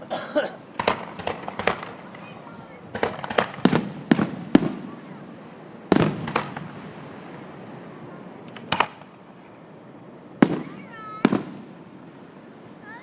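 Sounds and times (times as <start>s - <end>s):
fireworks banging: 0.0s - 13.0s.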